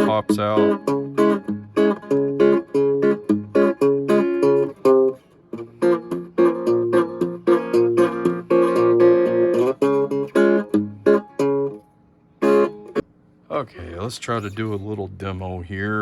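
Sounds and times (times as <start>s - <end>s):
electric guitar strumming chords: 0.0s - 13.0s.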